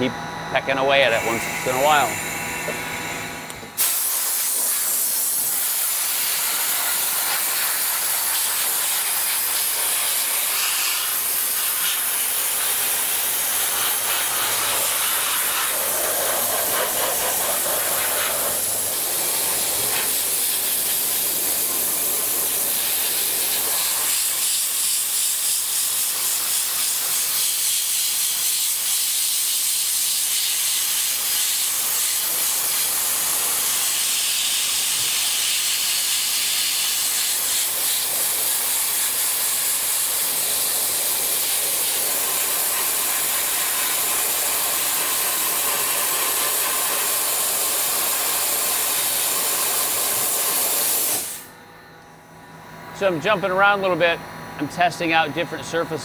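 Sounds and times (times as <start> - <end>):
compressed air hiss: 3.8 - 51.6.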